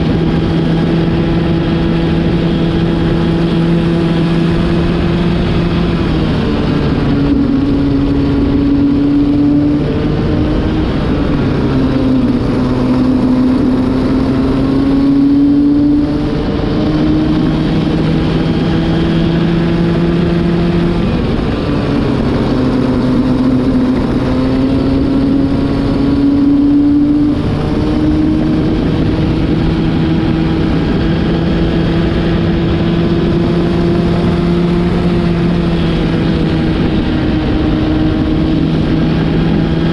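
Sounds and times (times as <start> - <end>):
racing kart engine at high revs: 0.0 - 39.9.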